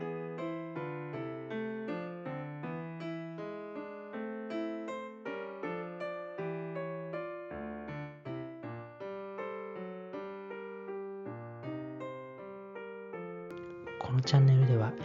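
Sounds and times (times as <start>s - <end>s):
gentle piano tune: 0.0s - 15.0s.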